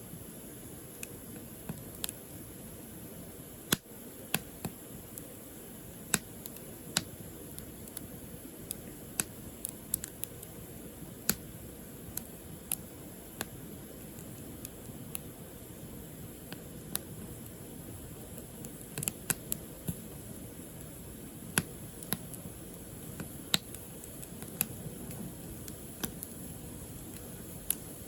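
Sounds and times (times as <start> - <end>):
low rush of flames: 0.0 - 28.0
firewood crackling and popping: 0.7 - 2.4, 3.5 - 28.0.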